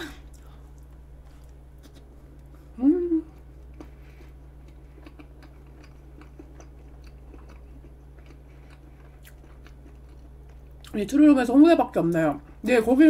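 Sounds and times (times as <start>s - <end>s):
soft chewing: 0.0s - 11.0s
steady low hum: 0.0s - 13.0s.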